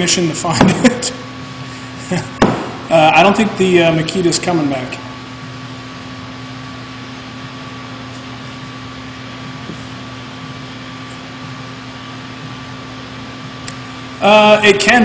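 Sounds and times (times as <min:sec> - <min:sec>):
steady background hum and hiss: 0:00.0 - 0:15.0.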